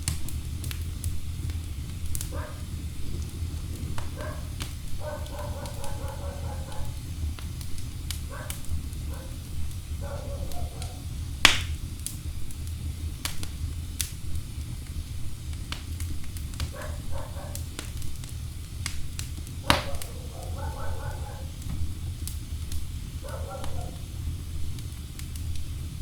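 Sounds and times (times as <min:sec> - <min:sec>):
flames rumbling: 0:00.0 - 0:26.0
wood fire crackling: 0:00.0 - 0:26.0.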